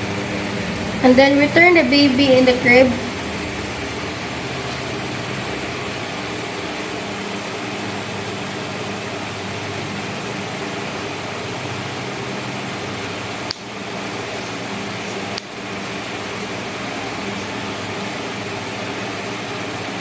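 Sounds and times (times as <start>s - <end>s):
air-conditioning hum: 0.0s - 20.0s.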